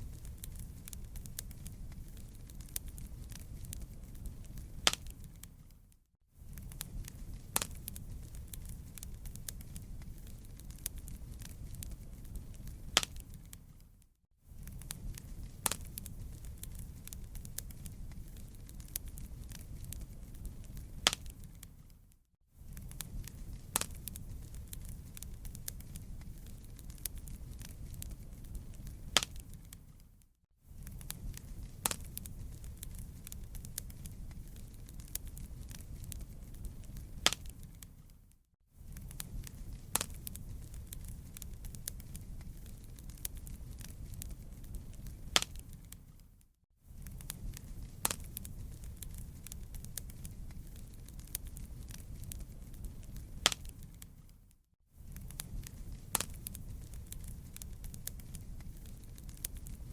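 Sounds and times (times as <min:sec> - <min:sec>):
loud fire pops: 0:00.0 - 0:05.4, 0:06.4 - 0:13.7, 0:14.5 - 0:21.9, 0:22.6 - 0:30.0, 0:30.8 - 0:37.9, 0:38.8 - 0:46.1, 0:46.9 - 0:54.2, 0:55.0 - 0:59.9
campfire flames rumbling: 0:00.0 - 0:22.0, 0:22.6 - 0:38.2, 0:38.8 - 0:54.4, 0:55.0 - 0:59.9
fire crackling: 0:00.0 - 0:59.9.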